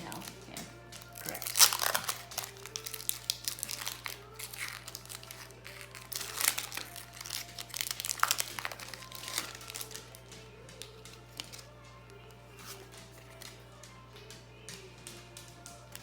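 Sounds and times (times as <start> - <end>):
foil wrapper crinkling: 0.0 - 13.6.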